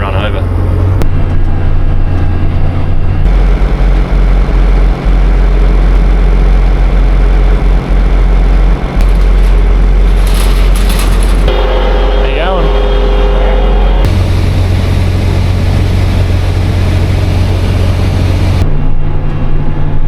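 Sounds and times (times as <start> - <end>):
vehicle engine humming: 0.0 - 18.9.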